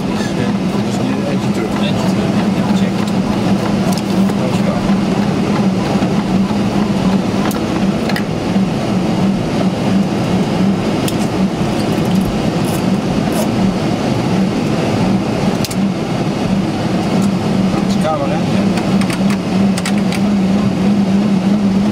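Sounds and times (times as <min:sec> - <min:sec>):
aircraft cockpit hum and rush: 0:00.0 - 0:21.9.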